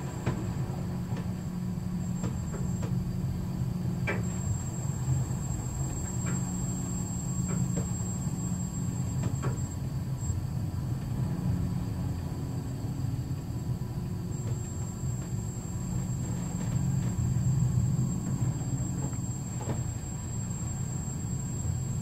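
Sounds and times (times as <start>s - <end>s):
faint high whine: 0.0s - 22.0s
ship low rumble: 0.0s - 22.0s.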